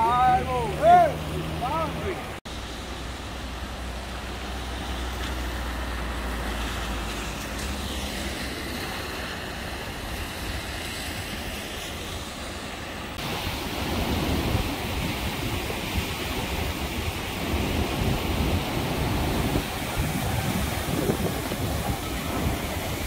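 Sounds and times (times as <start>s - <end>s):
river rushing: 0.0s - 23.0s
wind rumbling on microphone: 2.6s - 23.0s.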